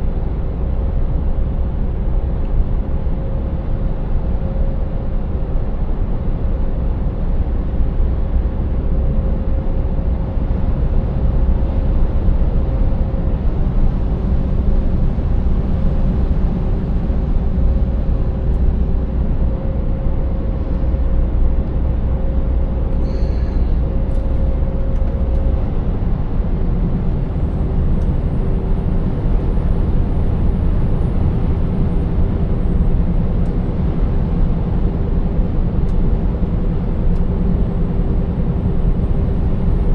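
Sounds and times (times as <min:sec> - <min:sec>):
faint hum: 0:00.0 - 0:39.9.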